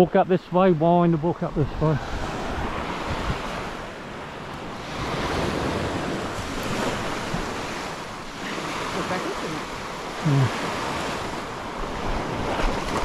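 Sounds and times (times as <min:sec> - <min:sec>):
small waves breaking on shore: 0:00.6 - 0:13.0
wind buffeting microphone: 0:01.4 - 0:13.0.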